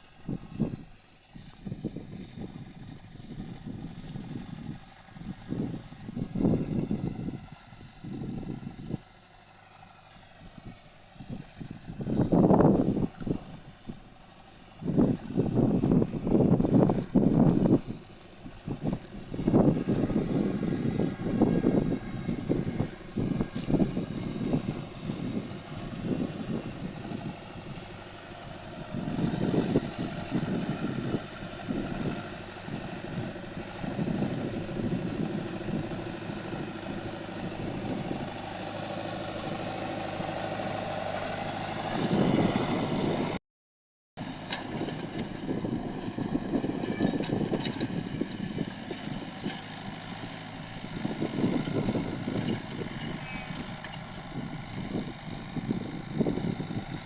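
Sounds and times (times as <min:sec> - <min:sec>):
engine running steadily: 0:00.0 - 0:43.4, 0:44.2 - 0:57.0
gusty rumbling: 0:00.2 - 0:09.1, 0:10.4 - 0:43.4, 0:44.6 - 0:57.0.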